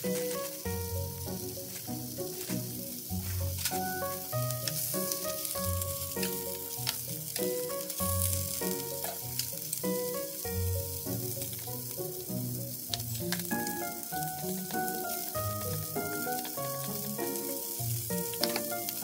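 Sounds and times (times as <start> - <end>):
background music: 0.0 - 19.0
meat sizzling in frying pan: 0.0 - 19.0.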